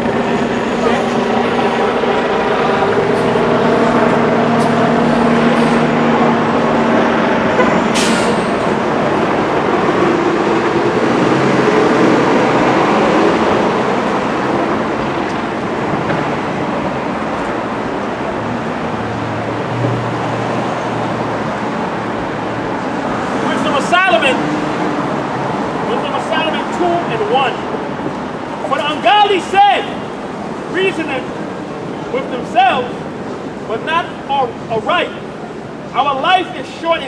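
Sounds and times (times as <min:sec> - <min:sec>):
traffic engine hum: 0:00.0 - 0:36.2.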